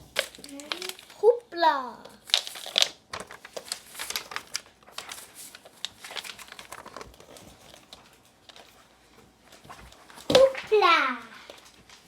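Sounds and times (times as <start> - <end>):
paper crinkling and rustling: 0.0 - 1.4, 2.0 - 12.0.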